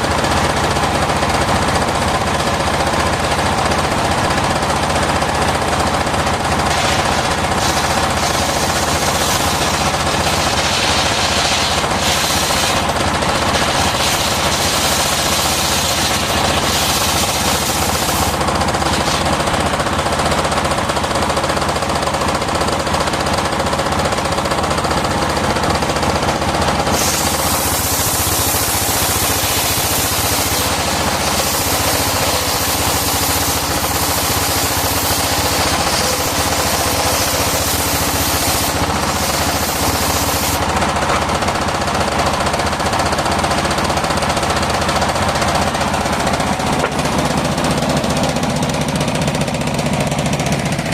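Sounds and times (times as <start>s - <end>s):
saw blade cutting wood: 0.0s - 21.0s, 24.2s - 49.5s
sawmill engine knocking: 0.0s - 50.9s.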